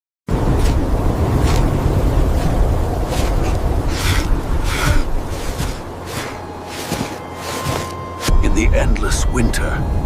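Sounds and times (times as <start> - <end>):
blizzard wind blowing: 0.3 - 10.0.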